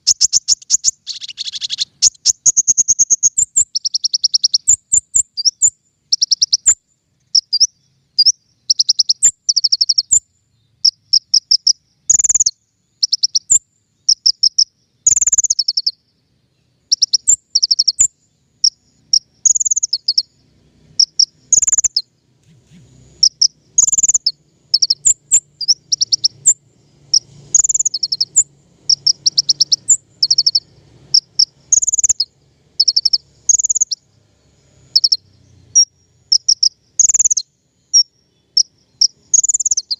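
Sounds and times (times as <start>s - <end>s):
faint low hum: 0.0s - 39.9s
songbird singing: 0.0s - 39.9s.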